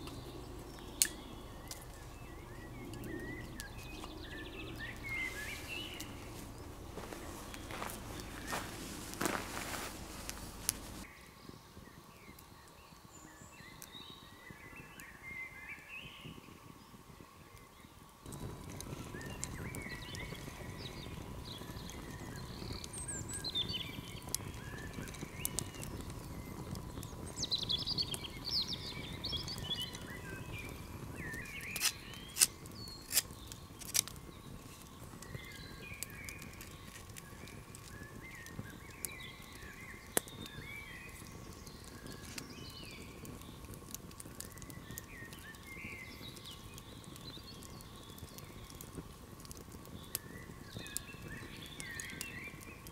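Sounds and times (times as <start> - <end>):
sharp cracks of fire: 0.0 - 11.1, 11.8 - 52.9
campfire crackling: 0.0 - 52.9
songbirds chirping: 0.0 - 52.9.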